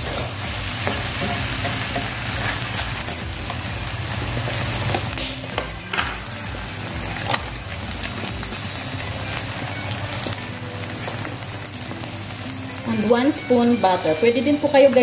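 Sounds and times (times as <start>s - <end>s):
background music: 0.0s - 15.0s
food sizzling in a wok: 0.0s - 15.0s.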